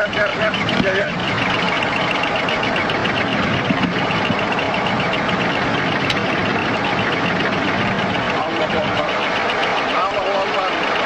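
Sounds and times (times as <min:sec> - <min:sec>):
cockpit engine and airflow noise: 0:00.0 - 0:11.0
rapidly pulsing high tone: 0:00.0 - 0:11.0.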